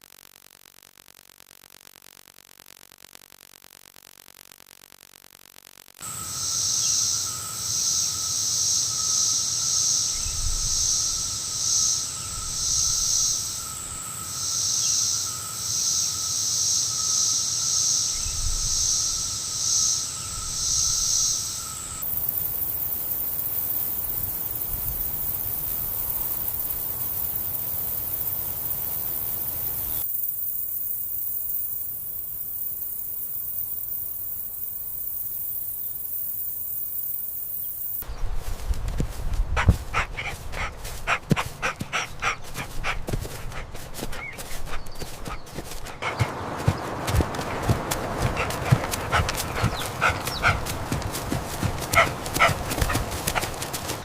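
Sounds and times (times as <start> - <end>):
insects chirping: 6.0 - 38.6, 39.6 - 54.0.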